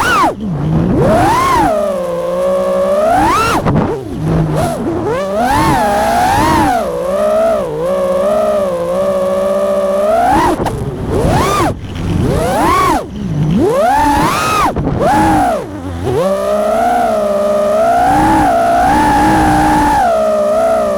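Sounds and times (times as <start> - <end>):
quadcopter motors whining: 0.0 - 20.9.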